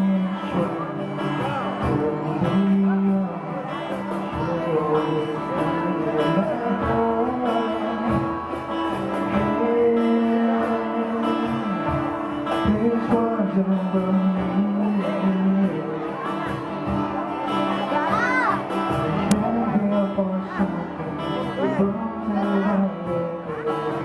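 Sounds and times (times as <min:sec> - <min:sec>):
guitar: 0:00.0 - 0:24.0.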